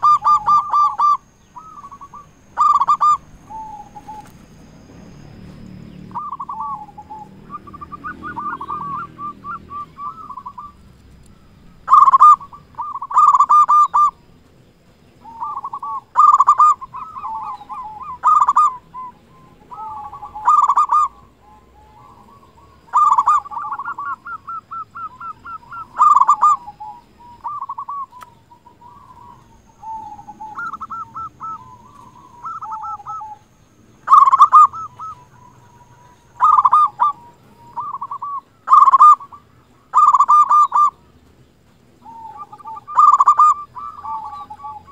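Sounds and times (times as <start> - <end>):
dove cooing: 0.0 - 41.3, 41.9 - 44.9.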